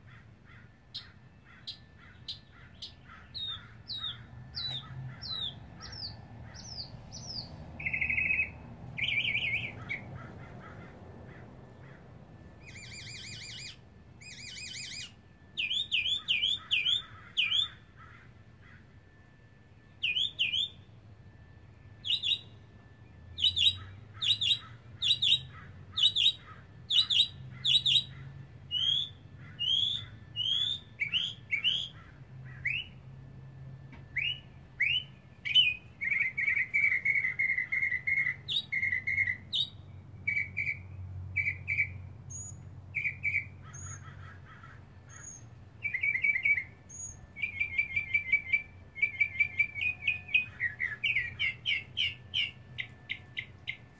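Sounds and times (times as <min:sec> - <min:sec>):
mockingbird singing: 0:00.0 - 0:19.2, 0:19.8 - 0:33.1, 0:34.1 - 0:53.9.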